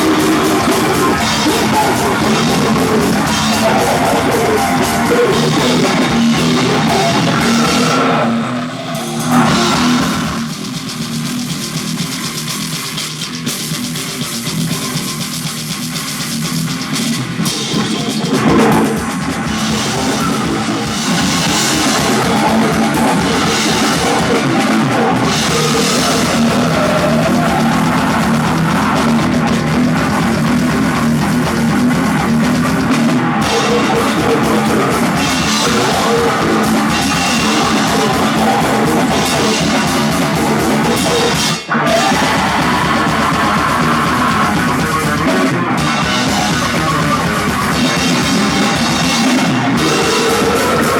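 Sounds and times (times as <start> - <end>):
heavy metal band playing: 0.0 - 50.9.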